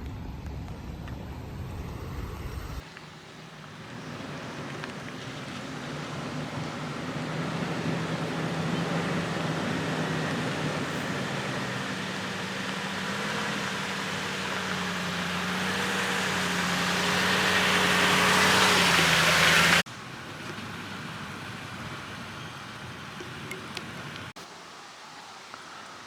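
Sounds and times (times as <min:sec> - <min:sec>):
car engine hum and road noise: 0:00.0 - 0:24.4
outdoor background noise: 0:00.0 - 0:26.0.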